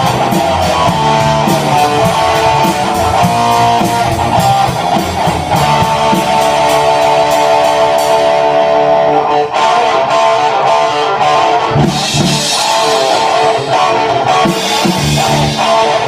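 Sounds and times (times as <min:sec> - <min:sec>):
live band music with guitar: 0:00.0 - 0:16.0.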